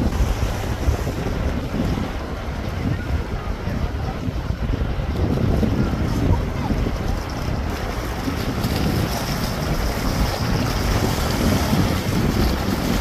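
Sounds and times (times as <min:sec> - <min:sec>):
surf washing against rocks: 0:00.0 - 0:13.0
wind blowing across microphone: 0:00.0 - 0:13.0.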